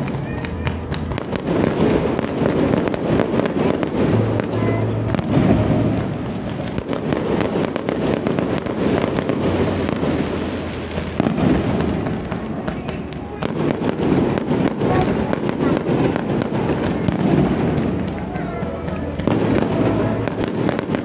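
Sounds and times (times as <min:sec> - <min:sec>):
fireworks crackling: 0:00.0 - 0:21.0
fireworks pops and bangs: 0:00.0 - 0:21.0.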